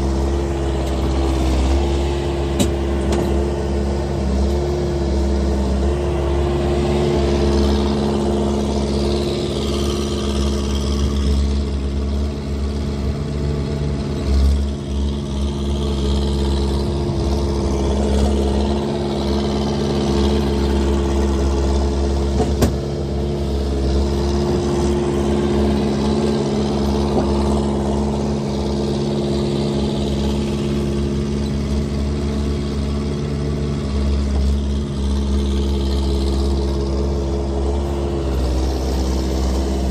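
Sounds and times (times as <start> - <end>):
loud unmuffled engine running: 0.0 - 39.9.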